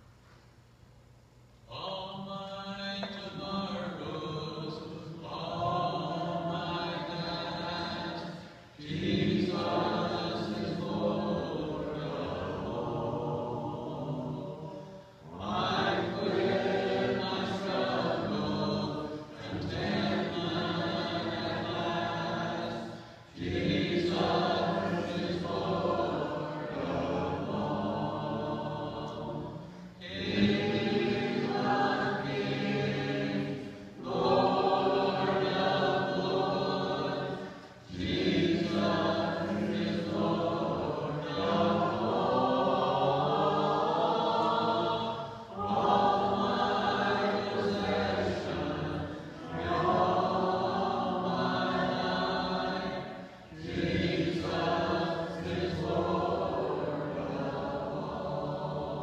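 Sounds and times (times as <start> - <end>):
congregation singing a hymn: 1.7 - 59.0.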